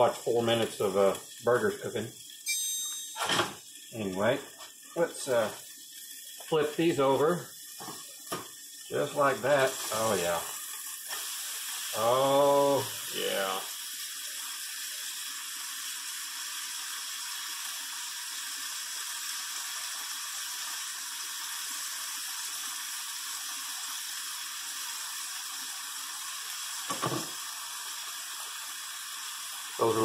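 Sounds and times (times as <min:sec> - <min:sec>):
burger patties sizzling on griddle: 0:00.0 - 0:30.0.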